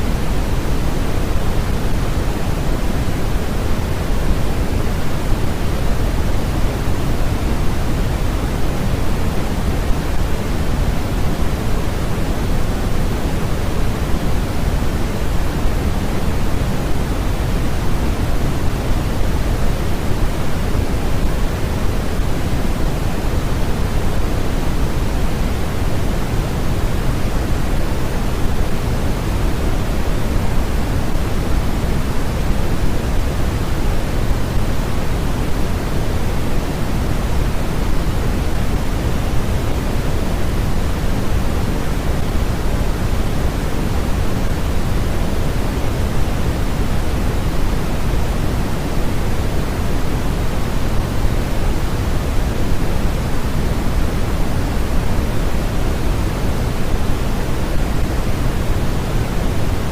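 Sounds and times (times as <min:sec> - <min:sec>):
low steady hiss: 0:00.0 - 0:59.9.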